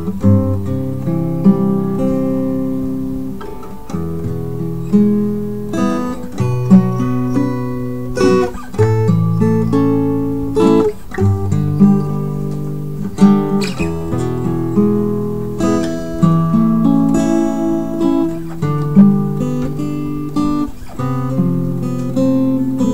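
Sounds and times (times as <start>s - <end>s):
acoustic guitar chords: 0.0s - 22.9s.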